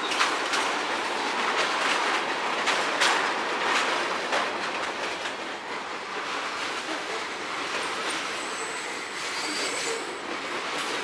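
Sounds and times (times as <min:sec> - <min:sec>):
freight train wheels rushing: 0:00.0 - 0:11.0
wheels clacking on rail joints: 0:00.0 - 0:11.0.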